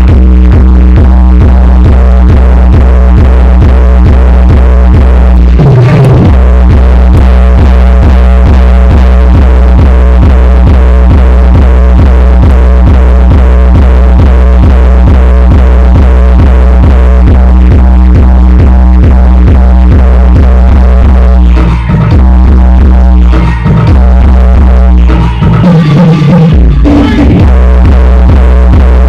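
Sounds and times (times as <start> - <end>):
electronic dance music with heavy bass: 0.0 - 29.0.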